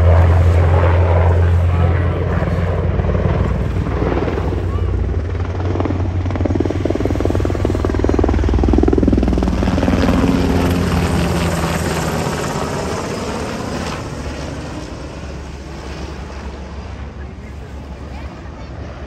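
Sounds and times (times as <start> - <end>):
helicopter flying past: 0.0 - 19.0.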